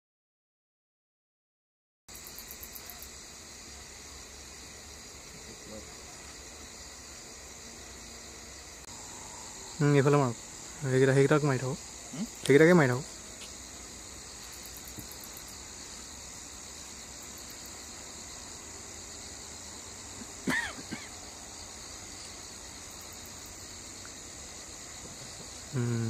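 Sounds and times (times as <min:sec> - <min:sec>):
crickets and night insects chirping: 0:02.1 - 0:26.0.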